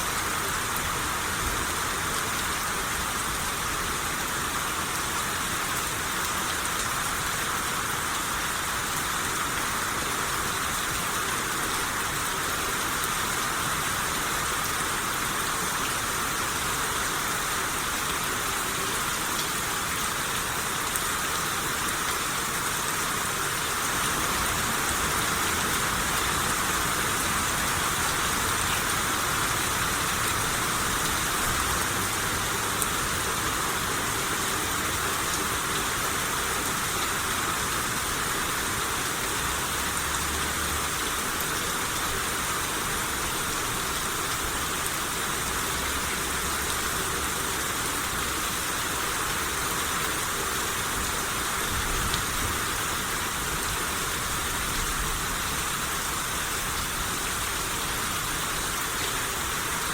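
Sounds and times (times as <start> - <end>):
rain hissing on surfaces: 0.0 - 59.9.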